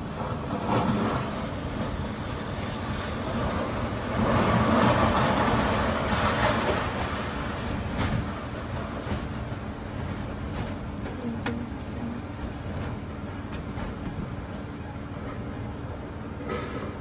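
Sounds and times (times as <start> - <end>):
storm-force wind rushing: 0.0 - 17.0.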